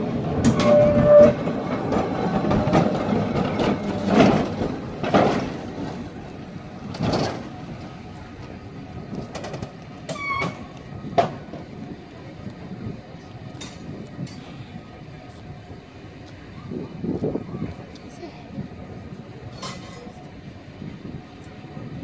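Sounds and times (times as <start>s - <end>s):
cable car rumbling on rails: 0.0s - 22.0s.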